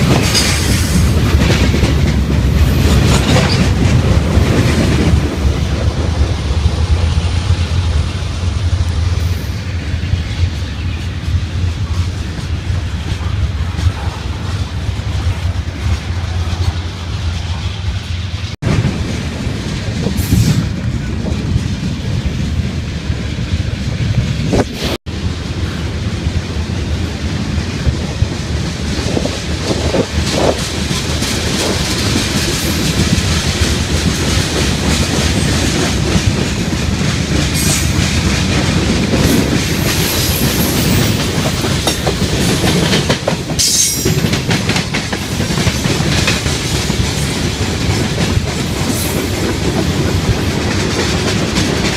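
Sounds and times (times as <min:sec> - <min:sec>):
train wheels clacking: 0:00.0 - 0:24.4, 0:26.9 - 0:51.9
freight train rumbling past: 0:00.0 - 0:51.9.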